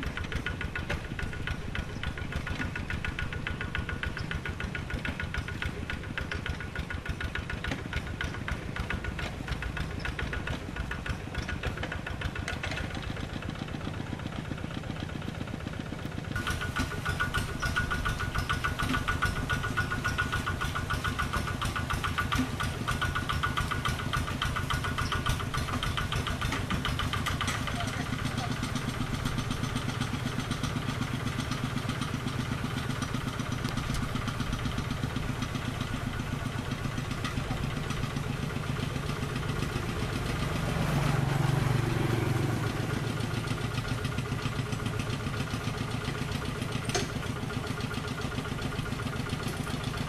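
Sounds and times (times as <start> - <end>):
diesel engine knocking: 0.0 - 50.0.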